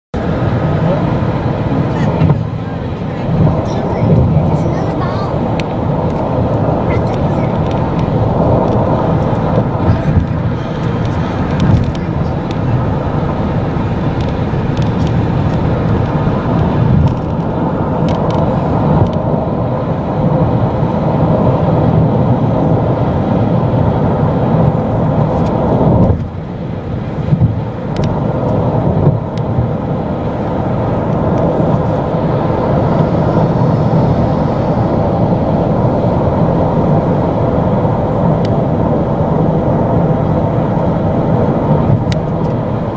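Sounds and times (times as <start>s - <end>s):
van cabin drone: 0.2s - 42.9s.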